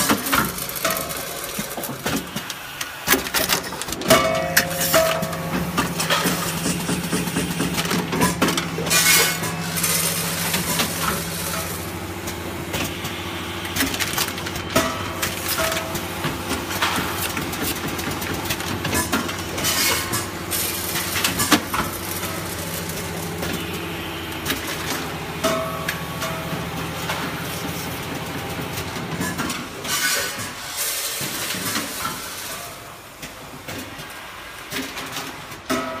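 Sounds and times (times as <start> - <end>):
packing machine hum: 0.0 - 36.0
pneumatic grippers clicking and clattering: 0.0 - 36.0.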